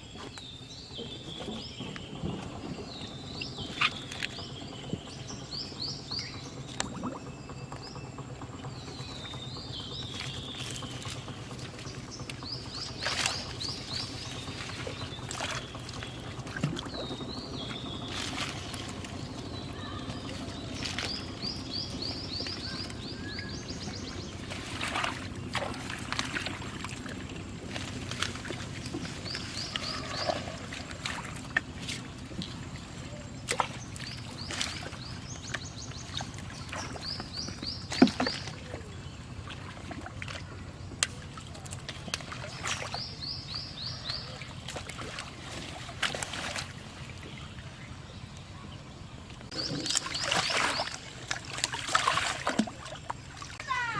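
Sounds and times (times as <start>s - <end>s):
water sloshing and splashing: 0.0s - 53.9s.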